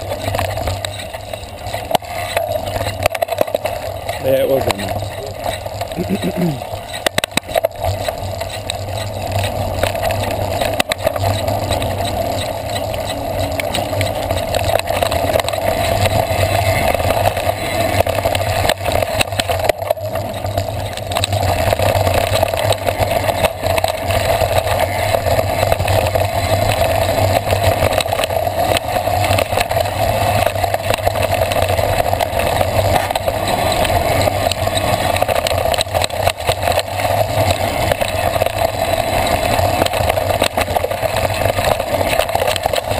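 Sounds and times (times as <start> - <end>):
bike knocks and rattles: 0.0 - 42.9.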